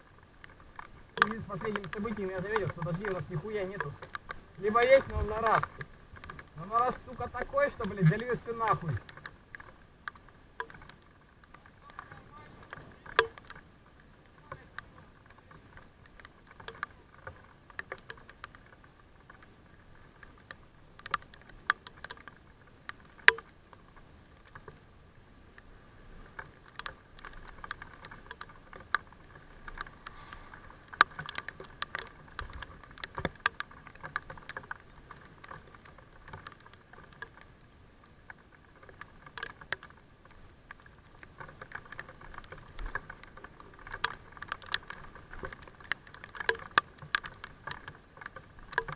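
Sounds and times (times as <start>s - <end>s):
raindrops tapping on camera: 0.0s - 48.9s.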